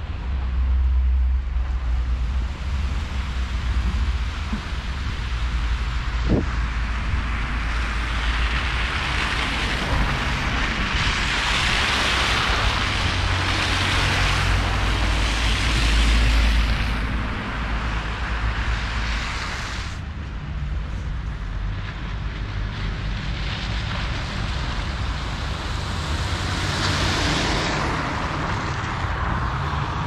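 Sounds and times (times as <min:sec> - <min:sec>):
tram rumbling: 0:00.0 - 0:30.0.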